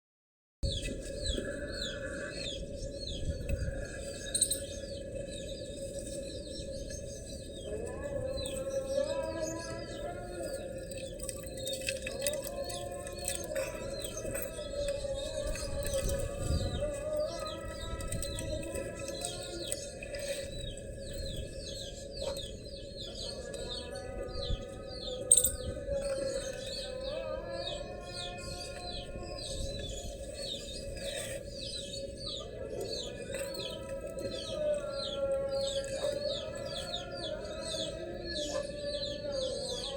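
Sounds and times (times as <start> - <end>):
birds chirping: 0.6 - 39.9.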